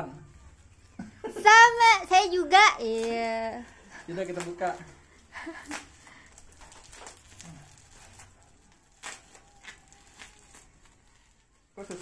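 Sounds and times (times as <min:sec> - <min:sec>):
bubble wrap rustling and crackling: 0:00.2 - 0:12.0.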